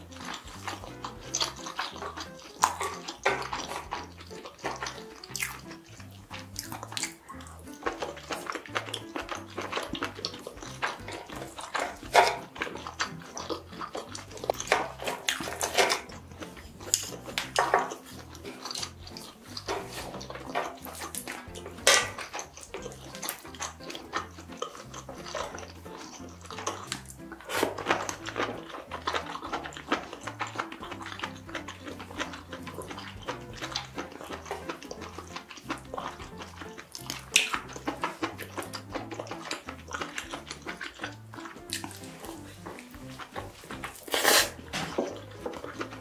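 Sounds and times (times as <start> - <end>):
wet chewing and lip-smacking: 0.0 - 46.0
wooden chopsticks clicking: 0.2 - 46.0.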